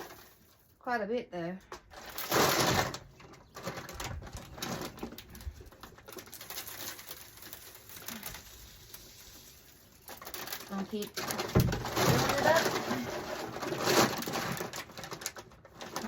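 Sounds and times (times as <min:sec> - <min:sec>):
seed pattering: 0:01.9 - 0:16.0
bird seed pouring: 0:02.0 - 0:16.0.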